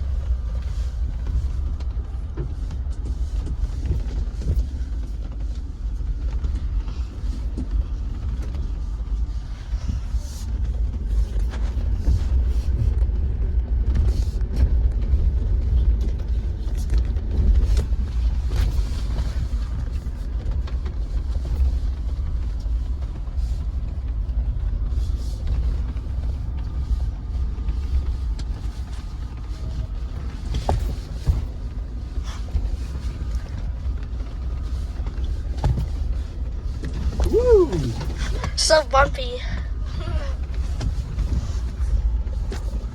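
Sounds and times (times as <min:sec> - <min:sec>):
vehicle rumbling on rocky trail: 0:00.0 - 0:42.9.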